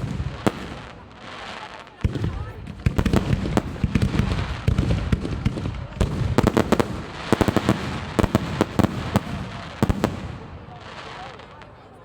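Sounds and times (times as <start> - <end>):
crackling firework reports: 0.0 - 12.0
fireworks bangs: 0.0 - 12.0.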